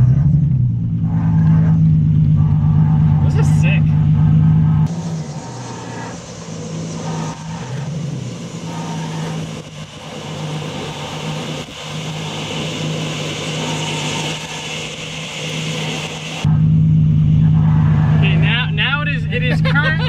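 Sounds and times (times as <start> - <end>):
car engine: 0.0 - 20.0
road and wind noise: 0.0 - 20.0.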